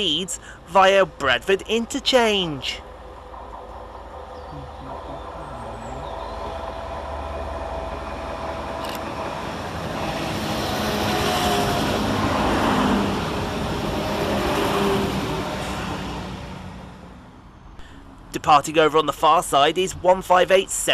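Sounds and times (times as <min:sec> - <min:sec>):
train wheel noise: 0:00.0 - 0:17.2
diesel train engine: 0:00.0 - 0:20.9.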